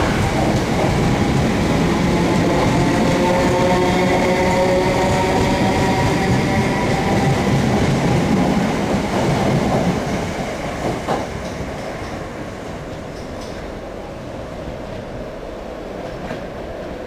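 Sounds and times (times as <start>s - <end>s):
train wheels clattering on rails: 0.0s - 13.8s.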